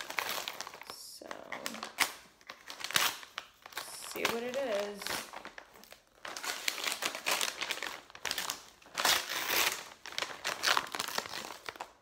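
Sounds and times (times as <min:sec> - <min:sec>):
wrapping paper crinkling and tearing: 0:00.0 - 0:12.0.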